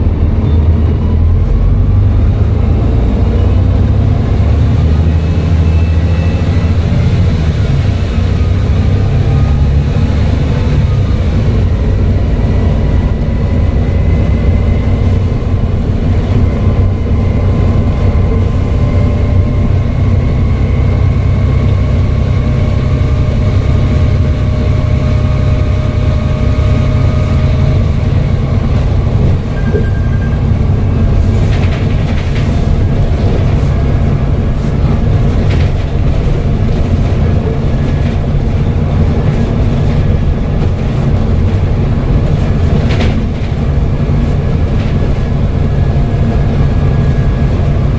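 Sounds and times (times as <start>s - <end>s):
bus diesel engine rumble: 0.0s - 47.9s.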